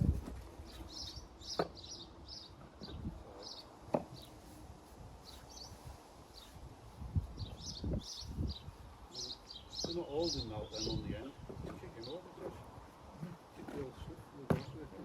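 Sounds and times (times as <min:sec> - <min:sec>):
small birds chirping: 0:00.6 - 0:04.6, 0:05.2 - 0:15.0.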